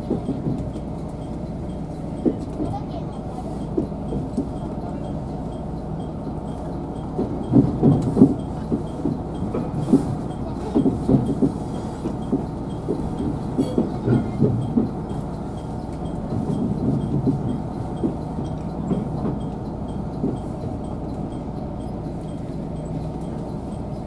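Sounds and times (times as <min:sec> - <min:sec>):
railcar running rumble: 0:00.0 - 0:24.0.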